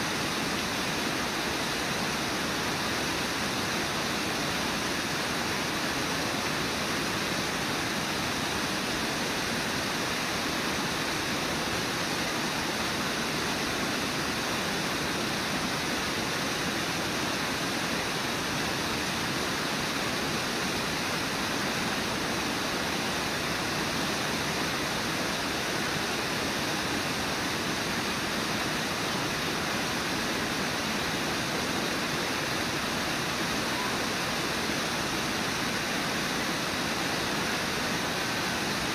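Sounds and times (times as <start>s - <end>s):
roaring waterfall and rapids: 0.0s - 38.9s.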